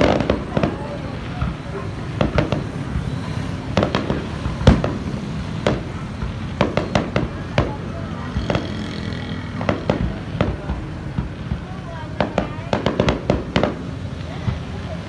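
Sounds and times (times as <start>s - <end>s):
crowd and street rumble: 0.0s - 15.0s
fireworks bursting: 0.0s - 15.0s.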